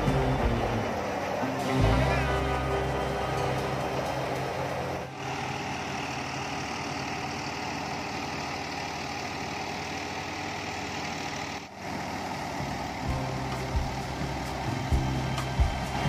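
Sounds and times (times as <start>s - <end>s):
tractor engine driving a thresher: 0.0s - 16.0s.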